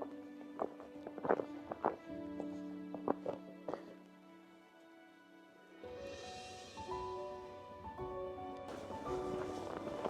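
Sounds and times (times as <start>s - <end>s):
sustained background music: 0.0s - 10.0s.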